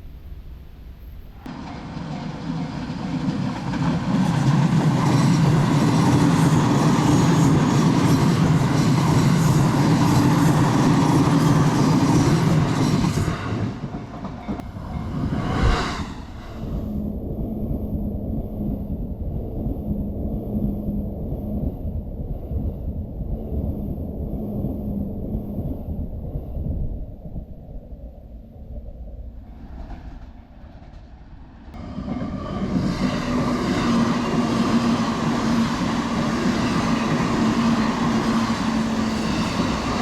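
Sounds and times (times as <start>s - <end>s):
train wheels rumbling on rail: 0.0s - 27.5s, 29.4s - 40.0s.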